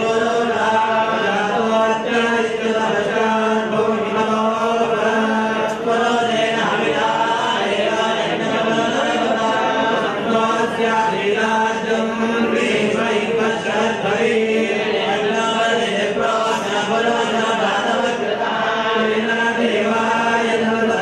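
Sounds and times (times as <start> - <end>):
voices chanting on held pitch: 0.0 - 21.0.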